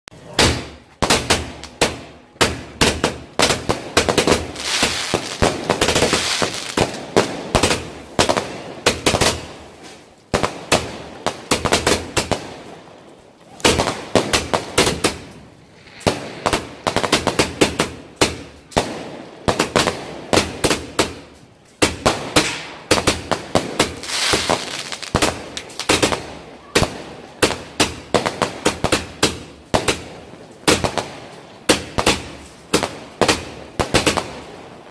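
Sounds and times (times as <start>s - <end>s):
fireworks launching and bursting: 0.1s - 34.9s
firework crackle: 0.2s - 34.9s.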